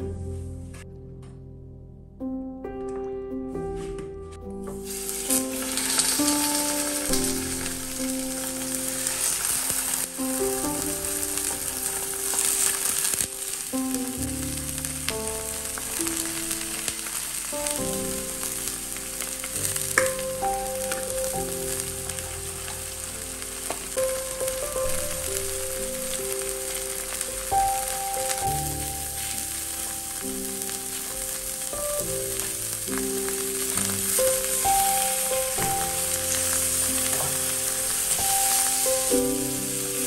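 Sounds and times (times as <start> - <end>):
background music: 0.0 - 40.0
fish sizzling in hot oil: 4.8 - 40.0.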